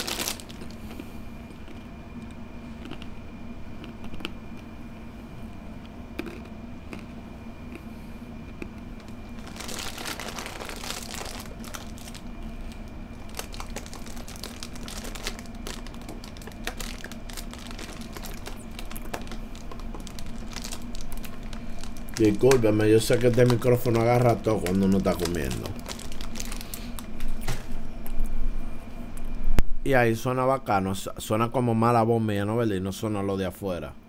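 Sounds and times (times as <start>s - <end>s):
crunching eating noises: 0.0s - 4.9s, 5.7s - 28.3s
faint steady hum: 0.0s - 34.0s.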